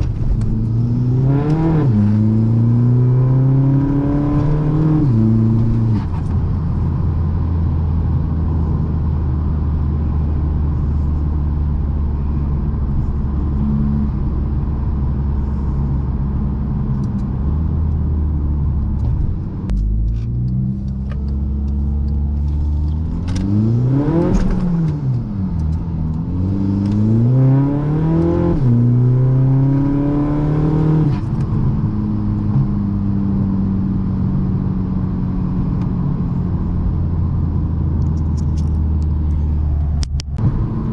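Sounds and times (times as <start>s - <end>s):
diesel car engine accelerating: 0.0s - 40.9s.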